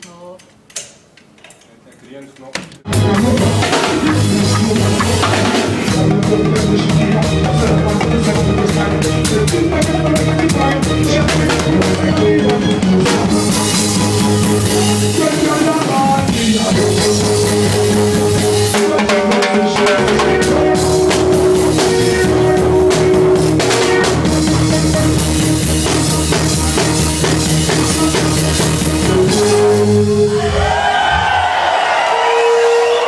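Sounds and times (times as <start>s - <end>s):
drum kit: 2.6s - 33.0s
live band playing: 2.9s - 31.1s, 32.0s - 33.0s.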